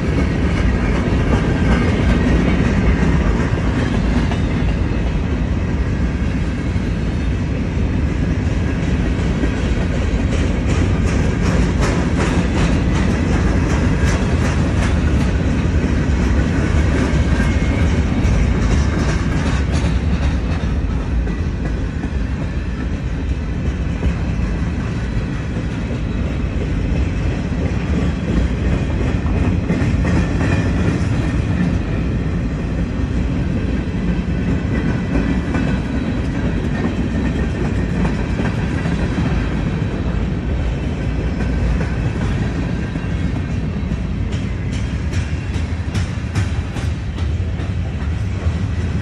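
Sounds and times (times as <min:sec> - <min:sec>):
freight train wheels rumbling: 0:00.0 - 0:49.0
wheels clicking over rail joints: 0:06.3 - 0:49.0.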